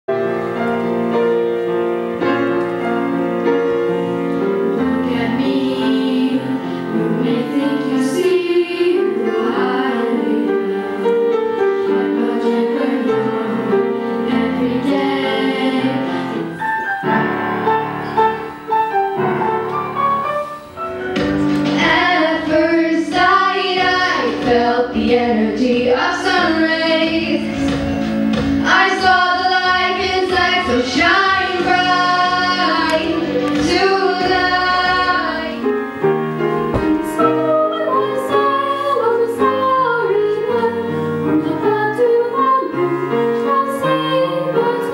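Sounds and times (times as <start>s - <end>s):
piano accompaniment: 0.1s - 44.9s
children singing: 3.6s - 18.5s, 21.6s - 28.0s, 28.6s - 44.9s.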